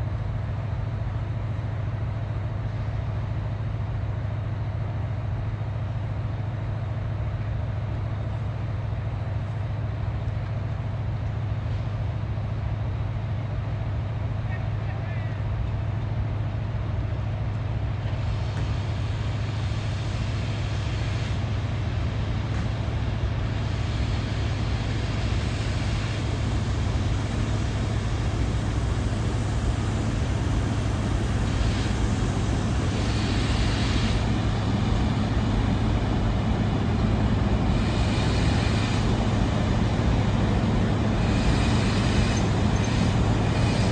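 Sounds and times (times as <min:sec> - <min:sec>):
constant rush of noise: 0:00.0 - 0:43.9
electric locomotive low hum: 0:00.0 - 0:43.9.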